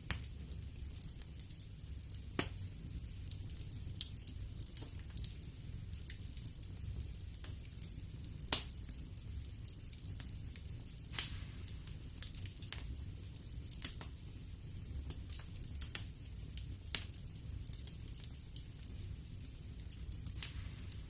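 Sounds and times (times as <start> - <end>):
low rumble of burning: 0.0 - 21.0
wood fire crackling and popping: 0.0 - 21.0.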